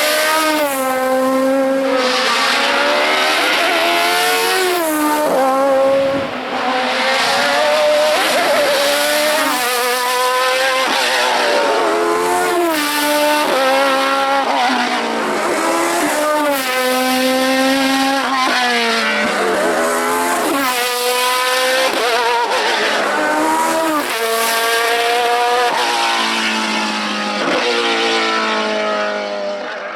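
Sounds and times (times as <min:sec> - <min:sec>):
race car engine at high revs: 0:00.0 - 0:29.9.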